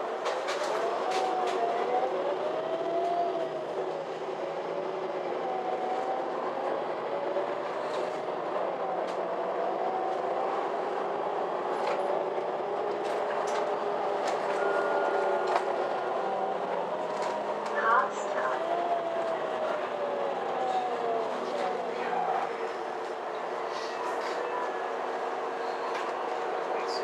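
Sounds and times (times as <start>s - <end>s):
bus drivetrain whine: 0.0s - 27.0s
road noise: 0.0s - 27.0s.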